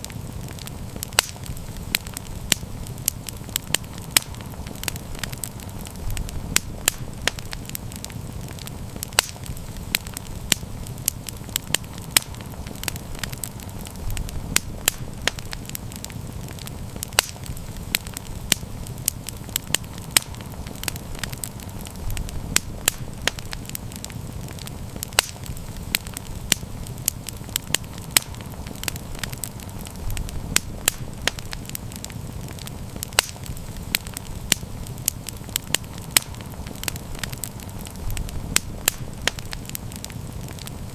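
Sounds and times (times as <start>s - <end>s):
low steady rumble: 0.0s - 40.9s
wood fire crackling: 0.0s - 40.9s.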